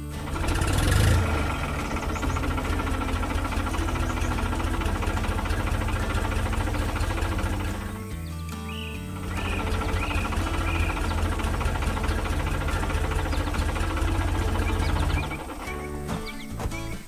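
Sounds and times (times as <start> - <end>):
harvester engine pulsing: 0.0 - 17.0.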